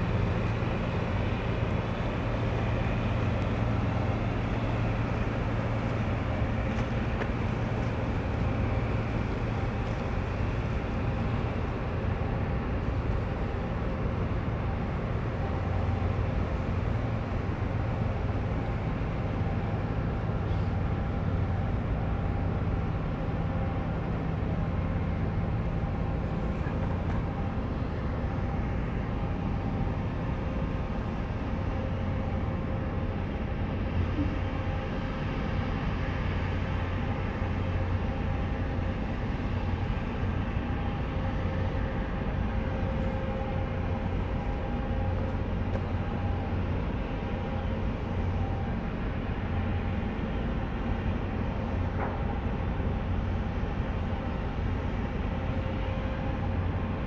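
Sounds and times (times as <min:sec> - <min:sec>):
low machinery rumble: 0:00.0 - 0:57.0.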